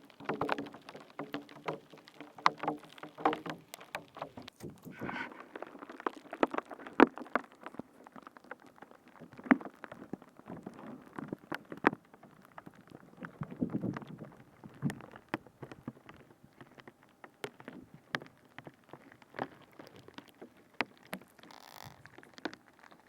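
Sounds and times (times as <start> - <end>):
soft rustling: 3.0 - 23.0.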